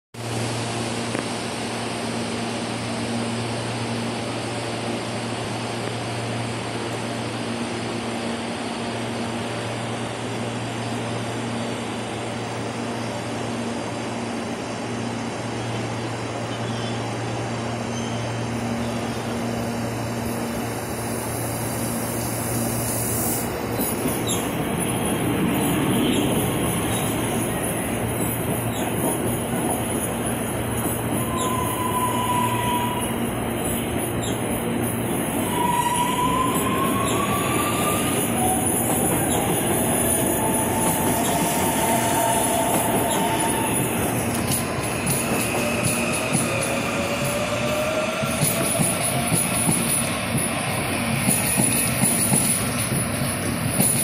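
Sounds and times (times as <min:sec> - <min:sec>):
electric train passing: 0:00.2 - 0:54.0.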